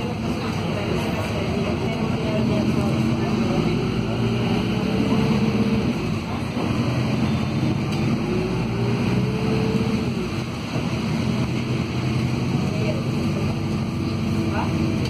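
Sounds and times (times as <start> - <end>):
bus drivetrain and road rumble: 0.0 - 15.0.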